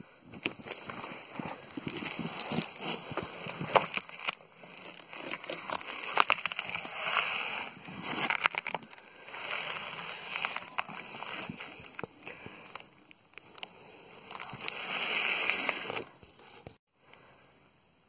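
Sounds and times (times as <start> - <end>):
wood shavings rustling: 0.4 - 16.8.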